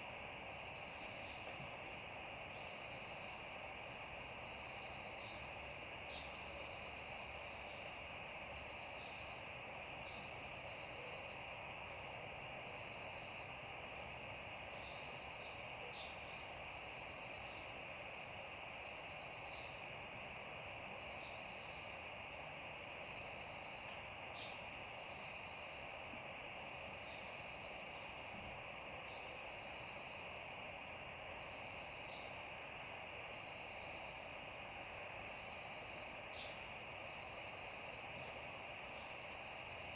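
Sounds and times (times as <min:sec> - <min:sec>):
constant soft hiss: 0:00.0 - 0:39.9
crickets trilling: 0:00.0 - 0:39.9.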